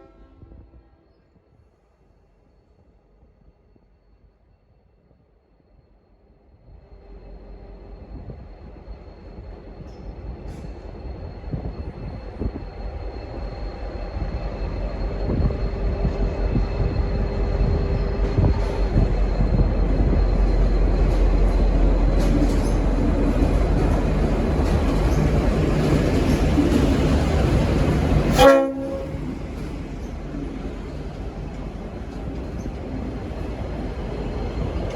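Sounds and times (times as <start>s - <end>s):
diesel locomotive engine rumble: 5.9s - 34.9s.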